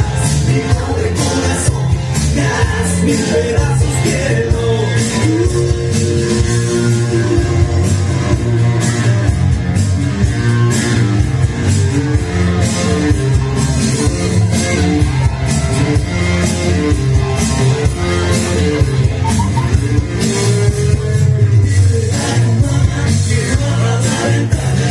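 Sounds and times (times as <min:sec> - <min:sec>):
instrumental rock music: 0:00.0 - 0:24.9.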